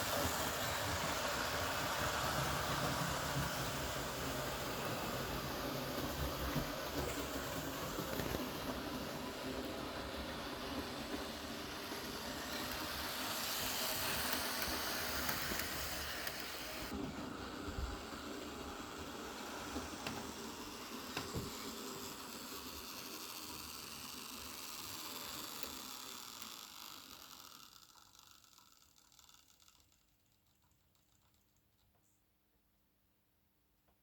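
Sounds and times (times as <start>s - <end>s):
model train wheels rattling: 0.0s - 17.0s, 18.0s - 31.6s
model train motor whirring: 0.0s - 31.5s.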